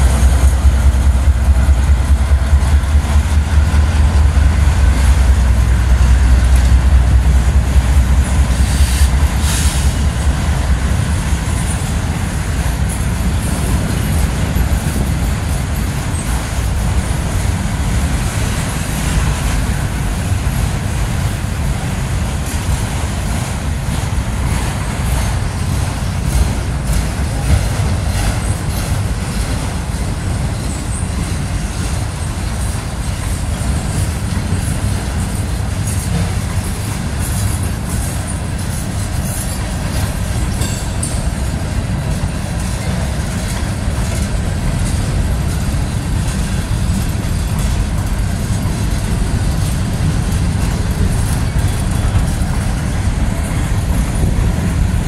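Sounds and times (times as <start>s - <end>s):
steel wheels rumbling on rail: 0.0s - 55.0s.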